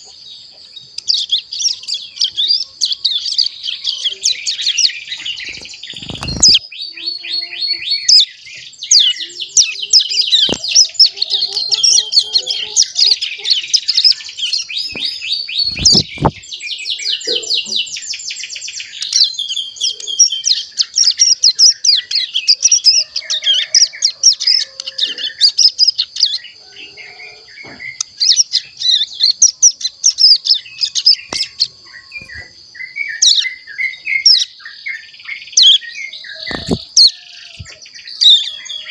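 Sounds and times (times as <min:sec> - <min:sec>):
bird chick twittering: 0:00.0 - 0:38.9.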